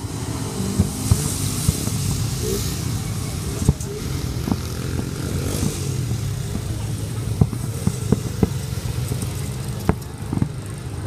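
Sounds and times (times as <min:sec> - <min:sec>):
sharp bangs: 0:00.0 - 0:10.7
vehicle engines running: 0:00.0 - 0:11.0.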